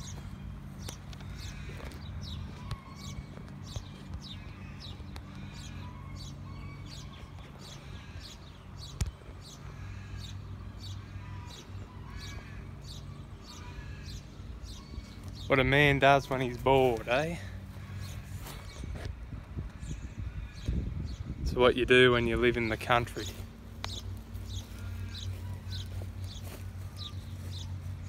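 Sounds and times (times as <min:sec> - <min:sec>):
birds chirping: 0:00.0 - 0:28.0
low steady hum: 0:00.0 - 0:28.0.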